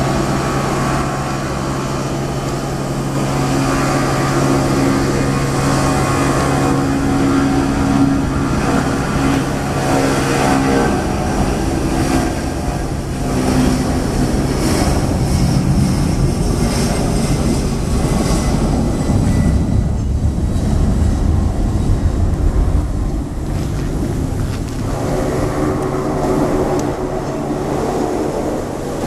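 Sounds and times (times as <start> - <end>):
jet engines at takeoff thrust: 0.0 - 29.0
steady hum tones: 0.0 - 29.0.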